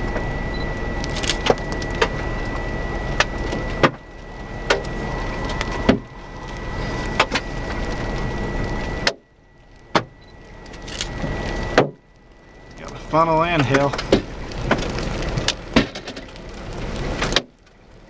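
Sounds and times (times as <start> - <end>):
faint high whine: 0.0 - 18.0
storm wind on microphone: 0.0 - 18.0.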